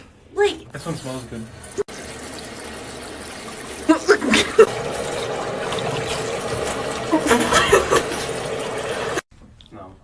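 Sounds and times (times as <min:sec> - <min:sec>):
tap water running: 0:00.4 - 0:09.3.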